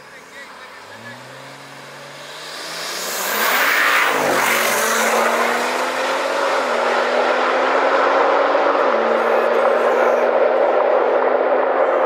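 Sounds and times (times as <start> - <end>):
cars accelerating at full throttle: 0.0 - 12.0.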